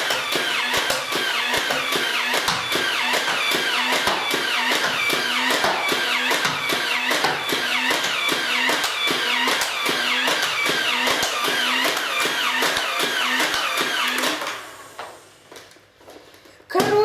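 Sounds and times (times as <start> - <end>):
toy blaster firing: 0.0 - 14.7.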